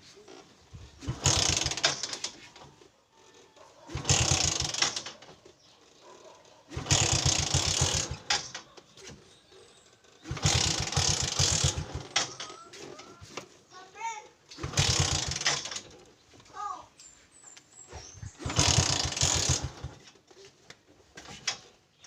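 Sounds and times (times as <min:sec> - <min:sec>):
motorcycle engine kick-started: 0:00.1 - 0:13.6, 0:14.5 - 0:16.4, 0:17.8 - 0:22.0.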